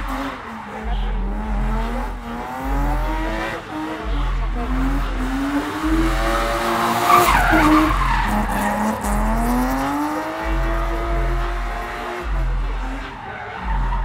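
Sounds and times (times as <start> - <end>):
car engine revving: 0.0 - 14.0
tyres skidding: 0.0 - 14.0.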